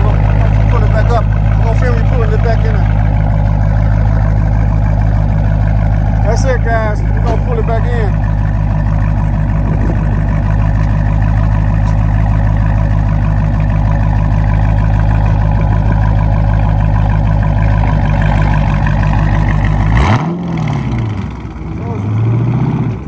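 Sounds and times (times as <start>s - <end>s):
engine throttle blip: 0.0s - 22.0s
car engine idling: 0.0s - 23.0s.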